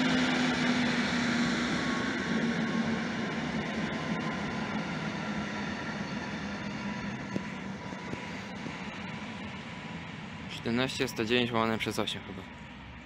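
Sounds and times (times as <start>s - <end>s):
electric train running hum and whine: 0.0s - 13.0s.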